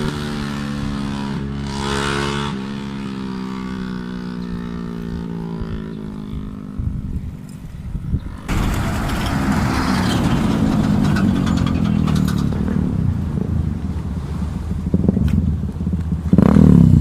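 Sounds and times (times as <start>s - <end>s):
motorcycle engine running: 0.0s - 9.0s, 10.7s - 17.0s.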